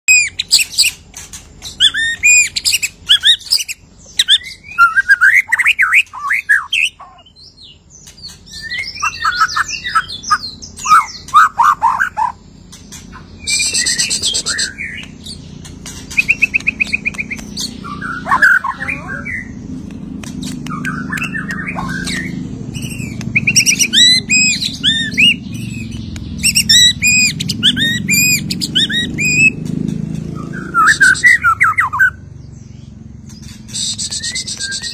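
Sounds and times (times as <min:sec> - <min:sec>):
songbird singing varied song: 0:01.6 - 0:34.9.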